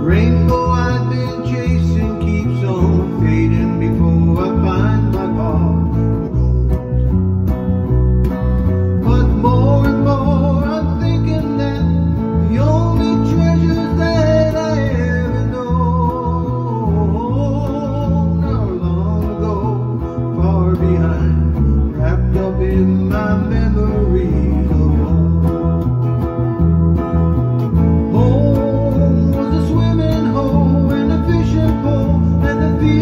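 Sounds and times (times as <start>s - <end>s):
man singing: 0.0s - 7.1s, 8.8s - 25.9s, 27.9s - 33.0s
acoustic guitar strumming: 0.0s - 33.0s
electric guitar: 0.0s - 33.0s.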